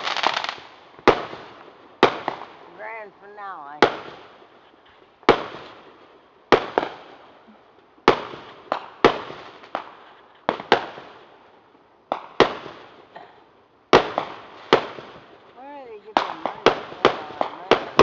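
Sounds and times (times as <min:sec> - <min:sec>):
fireworks bangs with echo: 0:00.0 - 0:07.4, 0:08.0 - 0:11.5, 0:12.1 - 0:13.2, 0:13.9 - 0:18.0.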